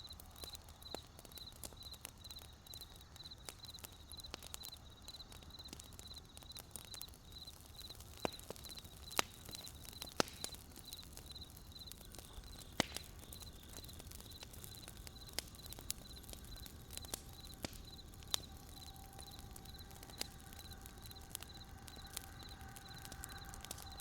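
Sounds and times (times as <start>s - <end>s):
campfire crackling and popping: 0.0s - 24.0s
crickets chirping: 0.0s - 24.0s.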